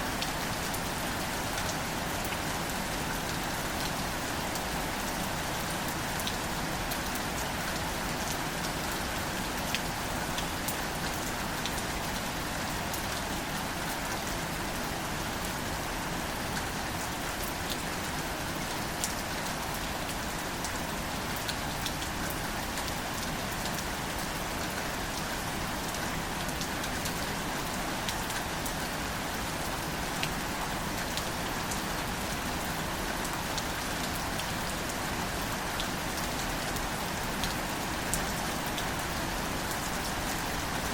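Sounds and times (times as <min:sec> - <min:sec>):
rain falling on plants: 0:00.0 - 0:40.9.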